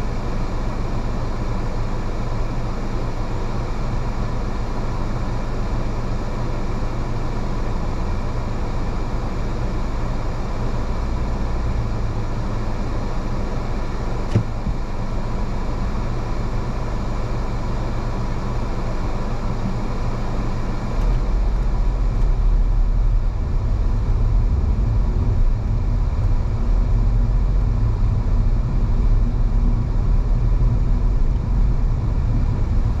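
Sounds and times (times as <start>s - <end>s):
car tyres and engine rumbling: 0.0s - 33.0s.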